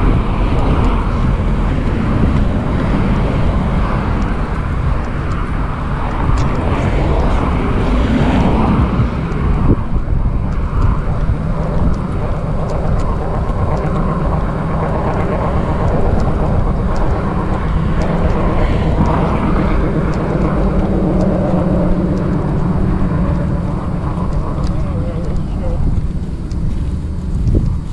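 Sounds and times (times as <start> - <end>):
road traffic rumble: 0.0 - 27.9
wind on microphone: 0.0 - 27.9.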